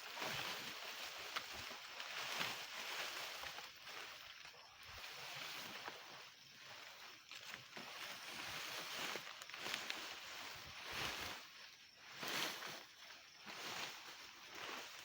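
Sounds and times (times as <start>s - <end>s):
dry maize stalks rustling: 0.0s - 15.0s.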